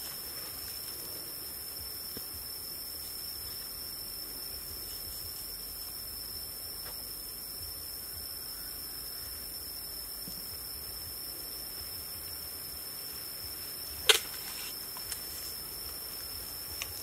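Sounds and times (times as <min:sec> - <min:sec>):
high-pitched whine and hiss: 0:00.0 - 0:17.0.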